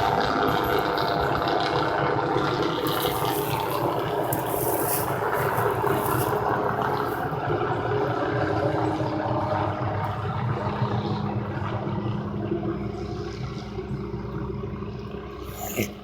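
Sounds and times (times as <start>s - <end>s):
helicopter flying overhead: 0.0s - 16.0s.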